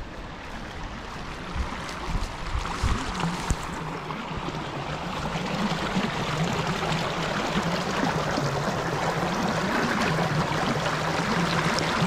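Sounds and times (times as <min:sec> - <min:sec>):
creek trickling: 0:00.0 - 0:12.0.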